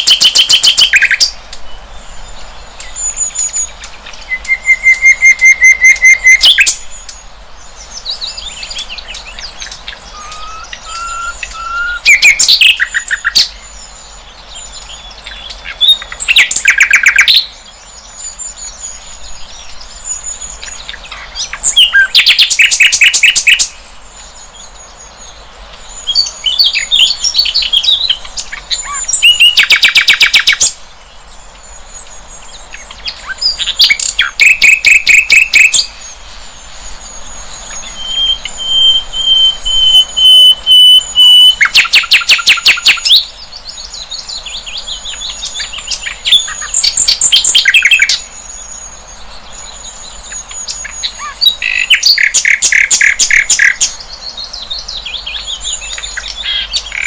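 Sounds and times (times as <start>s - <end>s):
bird chirping notes: 0.0s - 30.6s, 31.3s - 57.0s
bird trilled song: 0.0s - 57.0s.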